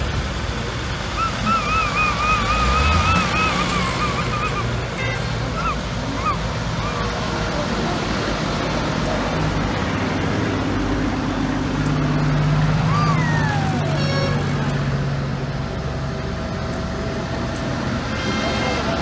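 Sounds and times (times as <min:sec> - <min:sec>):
diesel tractor engines running: 0:00.0 - 0:19.0.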